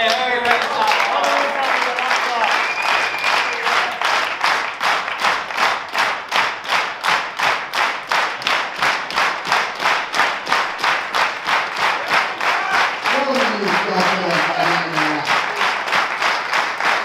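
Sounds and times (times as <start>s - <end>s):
spectators clapping in rhythm: 0.0s - 17.0s.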